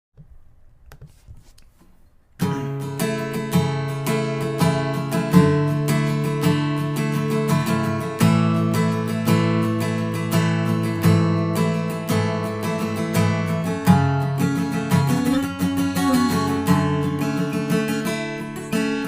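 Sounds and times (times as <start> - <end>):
acoustic guitar strumming chords: 2.4 - 19.0.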